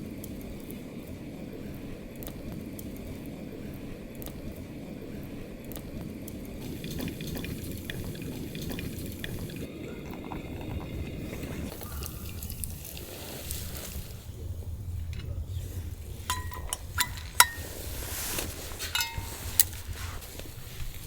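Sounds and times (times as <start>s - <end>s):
food simmering in a pot: 0.0s - 21.0s.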